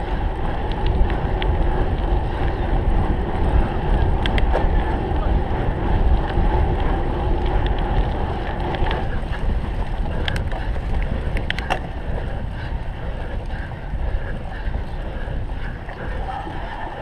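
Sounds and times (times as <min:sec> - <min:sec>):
bike sharp rattles and clicks: 0:00.0 - 0:17.0
wind rumbling on microphone: 0:00.0 - 0:17.0.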